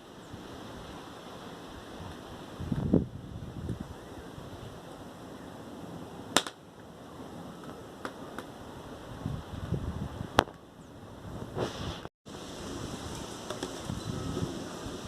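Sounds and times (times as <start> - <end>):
steady background hiss: 0.0 - 9.2, 11.6 - 15.0.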